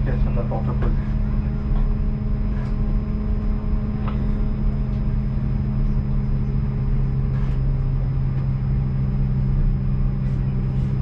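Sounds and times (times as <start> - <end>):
aircraft cabin ventilation rumble: 0.0 - 11.0.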